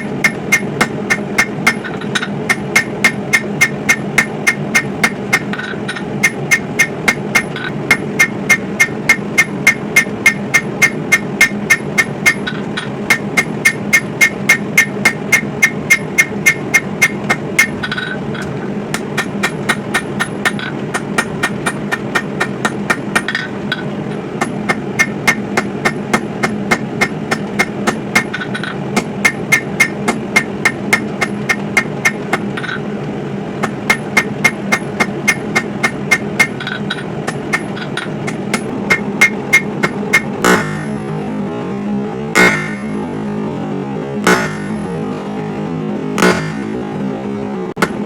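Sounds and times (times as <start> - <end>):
hammer striking steel on anvil: 0.0 - 32.9, 33.6 - 41.2, 42.4 - 43.3, 44.2 - 45.2, 46.2 - 46.9, 47.8 - 48.0
steady low rush: 0.0 - 48.0.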